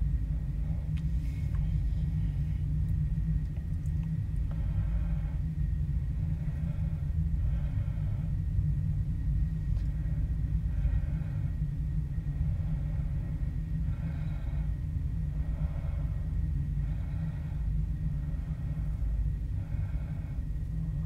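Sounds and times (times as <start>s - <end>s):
distant freight train rumbling: 0.0s - 21.0s.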